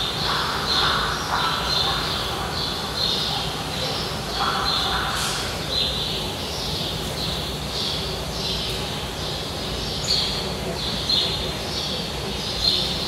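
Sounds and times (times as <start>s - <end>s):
bird chirping: 0.0s - 13.0s
steady background noise: 0.0s - 13.0s.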